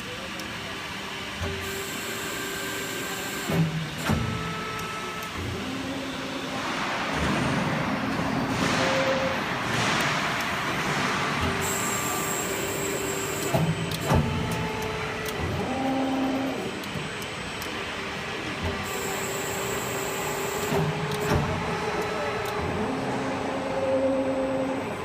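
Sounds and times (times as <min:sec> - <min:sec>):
press brake mechanical hum: 0:01.4 - 0:25.0.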